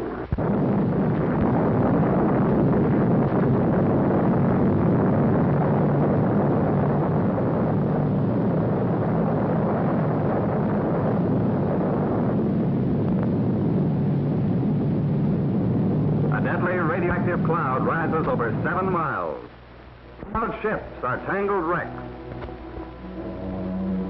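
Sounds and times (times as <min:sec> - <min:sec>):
deep explosion roar: 0:00.0 - 0:19.4, 0:20.2 - 0:24.0.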